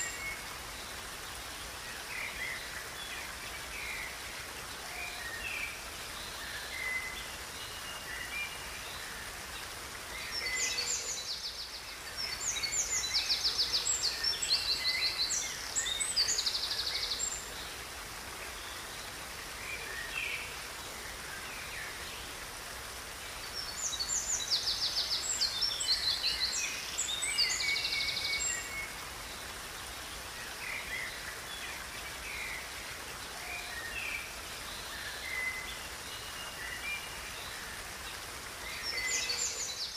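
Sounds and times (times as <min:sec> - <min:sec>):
river rushing: 0:00.0 - 0:39.9
songbirds singing: 0:00.0 - 0:39.9.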